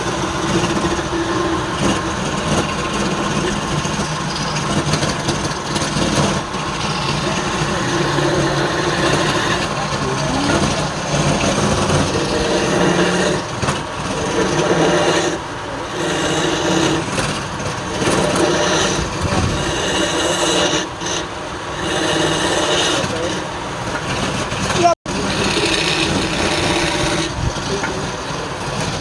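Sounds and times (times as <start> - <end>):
tool scraping spinning wood: 0.0 - 29.0
wood lathe running: 0.0 - 29.0.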